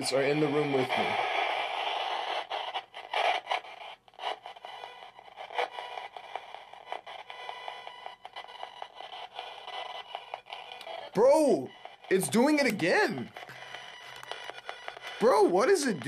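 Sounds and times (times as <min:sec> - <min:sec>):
radio static bursts: 0:00.0 - 0:16.0.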